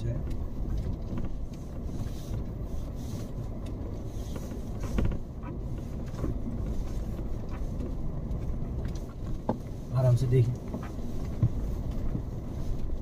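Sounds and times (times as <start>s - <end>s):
vehicle knocks and creaks: 0.0s - 2.7s, 3.4s - 13.0s
vehicle engine and tyres rumbling: 0.0s - 13.0s.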